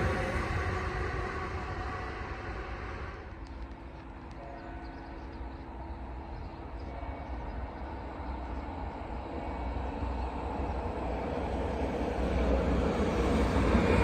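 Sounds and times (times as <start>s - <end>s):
train rumble approaching: 0.0s - 14.0s.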